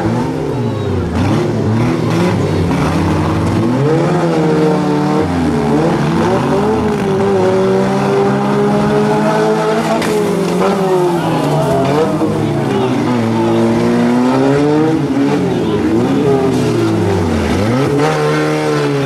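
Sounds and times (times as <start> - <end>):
car engines revving hard: 0.0 - 19.0.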